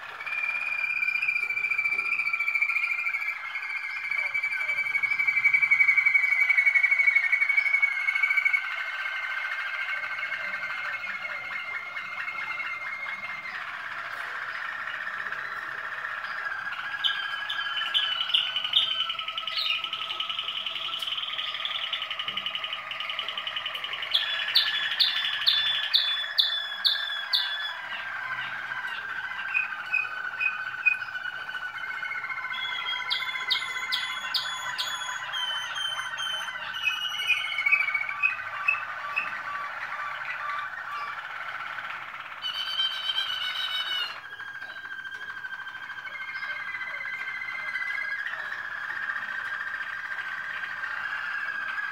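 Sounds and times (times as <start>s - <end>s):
canaries singing trills: 0.0s - 51.9s.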